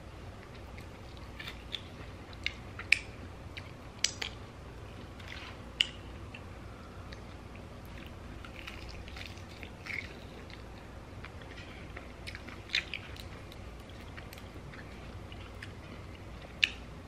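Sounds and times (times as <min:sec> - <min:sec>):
person chewing: 0:00.4 - 0:16.9.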